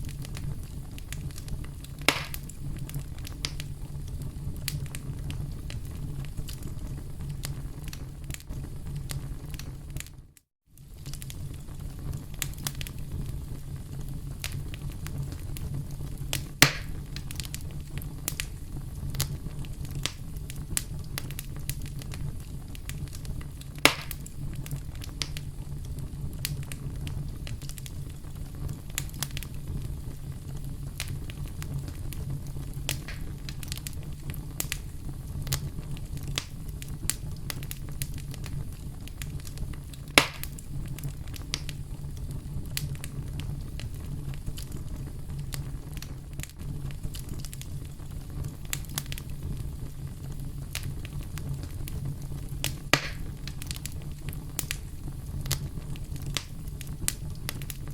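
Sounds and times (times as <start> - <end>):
campfire crackling: 0.0 - 57.9
loud fire pops: 0.0 - 57.9.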